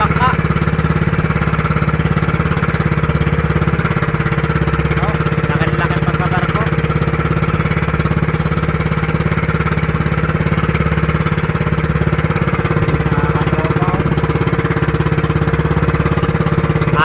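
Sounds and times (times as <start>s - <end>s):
boat engine puttering: 0.0s - 17.0s.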